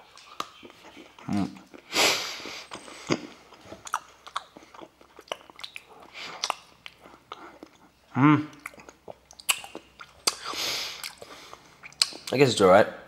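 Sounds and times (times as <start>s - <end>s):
person chewing chocolate: 0.0s - 12.4s.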